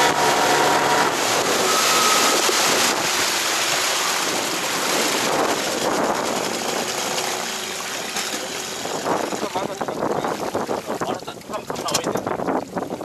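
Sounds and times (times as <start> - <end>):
sea water splashing around boat: 0.0 - 13.0
wind: 0.0 - 13.0.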